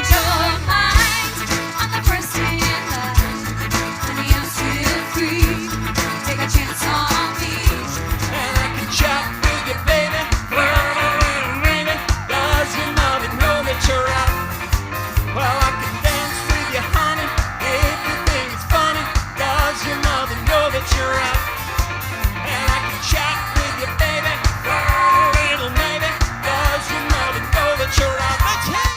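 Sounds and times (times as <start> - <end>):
live band playing pop: 0.0 - 28.9
steady drum beat: 0.0 - 28.9
person singing: 4.0 - 14.5, 15.3 - 28.9.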